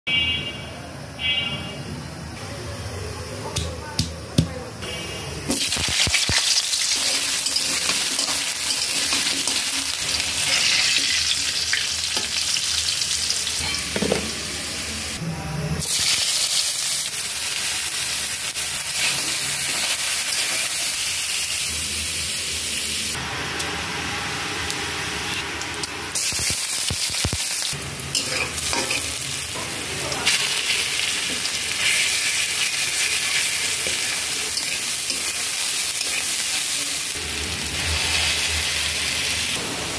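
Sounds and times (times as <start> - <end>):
vegetables sizzling in oil: 4.9 - 15.2, 15.8 - 39.9.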